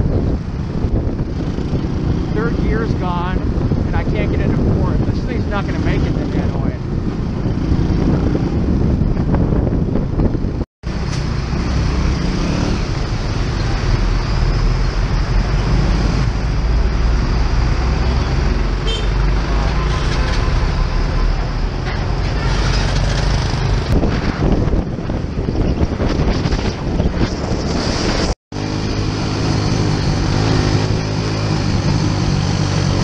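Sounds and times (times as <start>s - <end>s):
road traffic: 0.0s - 33.0s
wind noise on microphone: 0.0s - 33.0s.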